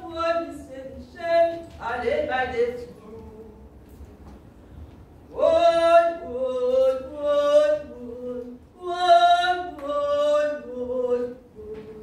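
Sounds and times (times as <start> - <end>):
woman singing unaccompanied: 0.0 - 3.7, 5.3 - 12.0.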